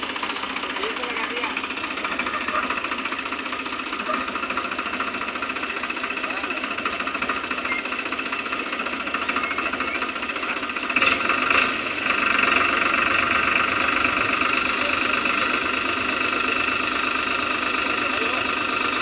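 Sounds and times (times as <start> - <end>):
diesel engine knocking: 0.0 - 19.0.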